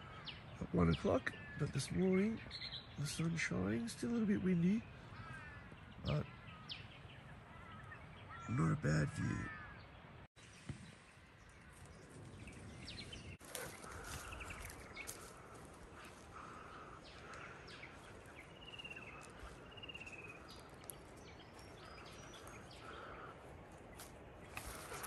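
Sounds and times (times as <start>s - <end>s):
birds calling and chirping: 0.0s - 25.0s.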